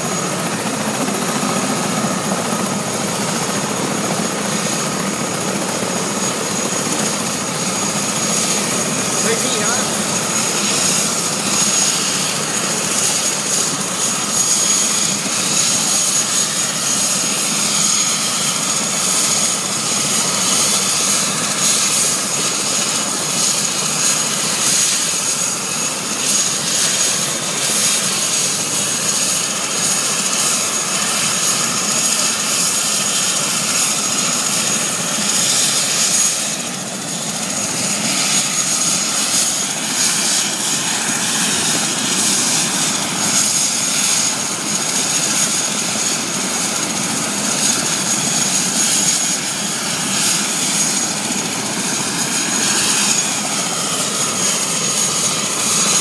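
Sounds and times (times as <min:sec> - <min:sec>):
helicopter rotor and engine noise: 0:00.0 - 0:56.0
helicopter turbine whine: 0:00.0 - 0:56.0.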